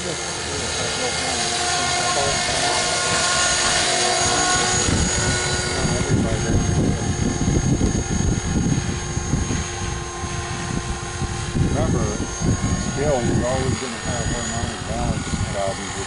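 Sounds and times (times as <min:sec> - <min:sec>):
low buffeting rumble: 0:00.0 - 0:16.0
rc helicopter whine: 0:00.0 - 0:16.0.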